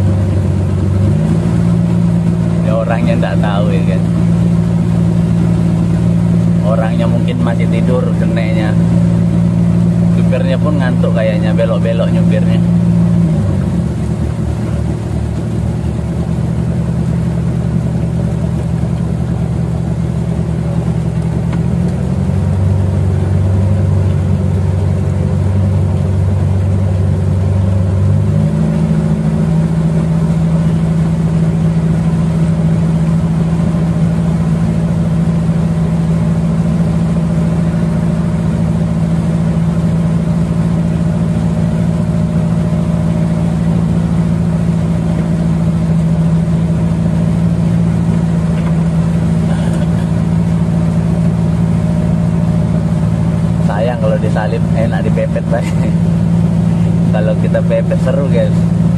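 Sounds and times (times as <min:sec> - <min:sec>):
boat engines droning: 0:00.0 - 0:58.9
water washing under boat: 0:00.0 - 0:58.9.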